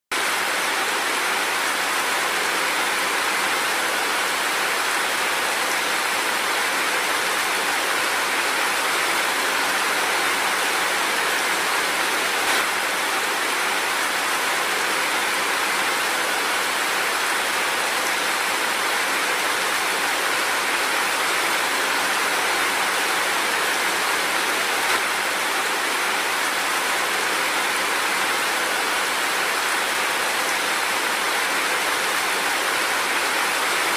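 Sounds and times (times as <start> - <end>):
steady rain hiss: 0.2 - 33.9.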